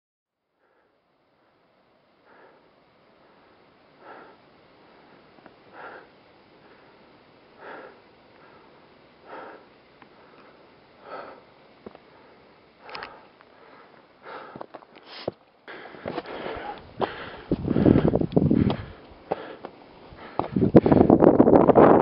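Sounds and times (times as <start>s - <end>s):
faint steady hiss: 0.4s - 22.0s
person breathing: 0.6s - 21.2s.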